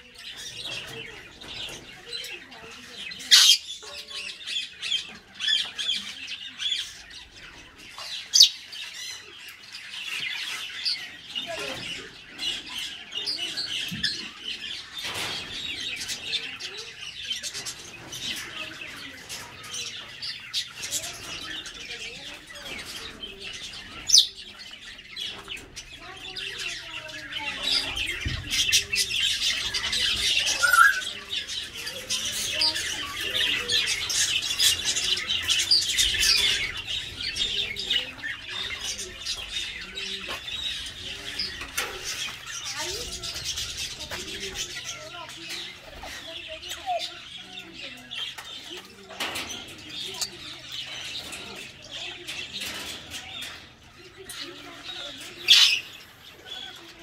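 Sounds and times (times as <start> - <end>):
parrots chattering and squawking: 0.0 - 57.0.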